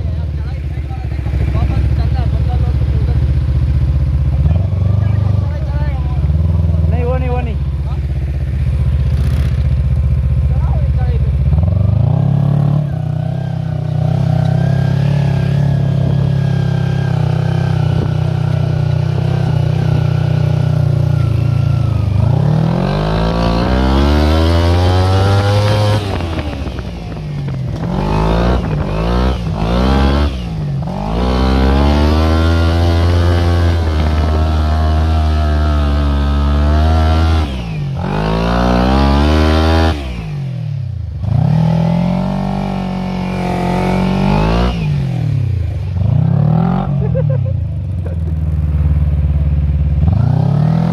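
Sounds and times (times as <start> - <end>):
go-kart engine revving: 0.0 - 50.9.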